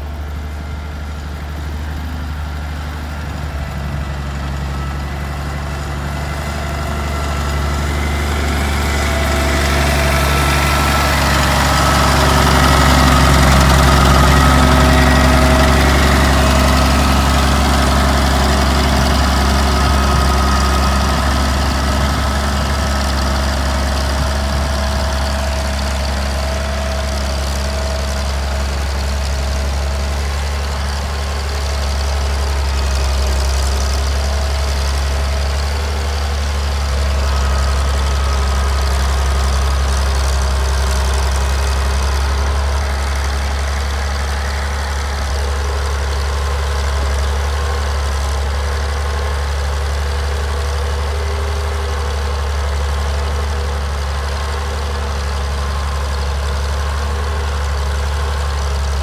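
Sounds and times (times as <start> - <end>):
grader diesel engine running: 0.0 - 59.0.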